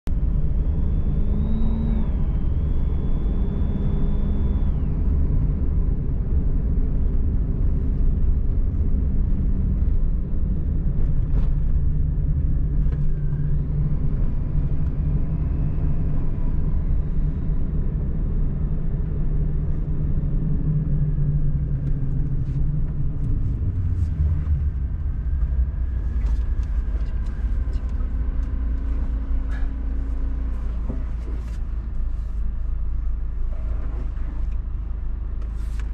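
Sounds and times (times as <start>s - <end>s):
car engine drone: 0.0s - 35.9s
road rumble: 0.0s - 35.9s.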